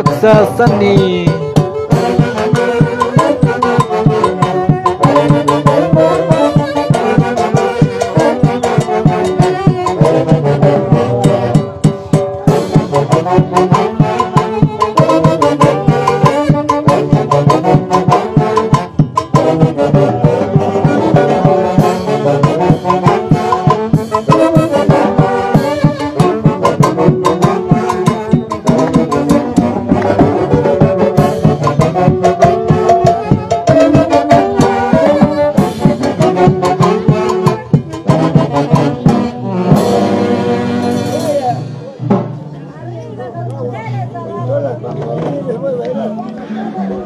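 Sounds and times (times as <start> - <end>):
orchestra playing dance tune: 0.0 - 42.2
horns: 0.0 - 42.4
steady beat: 0.0 - 42.6.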